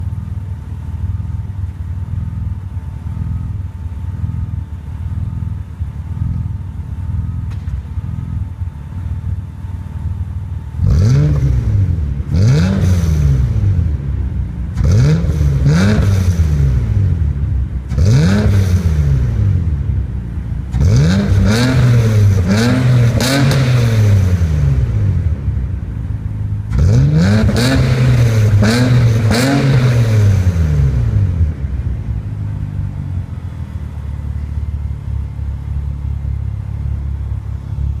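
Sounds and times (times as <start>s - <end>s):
car engine revving and idling: 0.0s - 38.0s.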